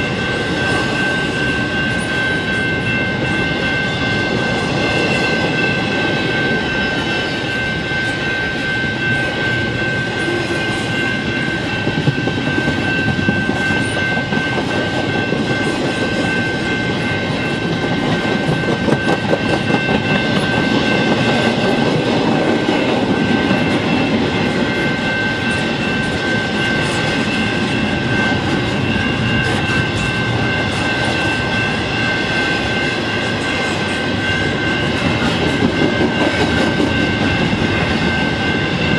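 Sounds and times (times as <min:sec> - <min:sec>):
crossing bell ringing: 0:00.0 - 0:38.9
train rolling past: 0:00.0 - 0:38.9.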